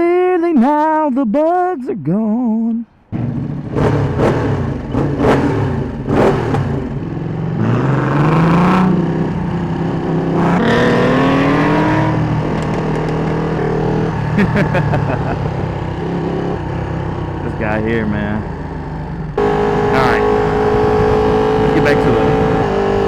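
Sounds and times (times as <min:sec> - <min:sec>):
motorcycle engine accelerating: 0:03.1 - 0:23.0.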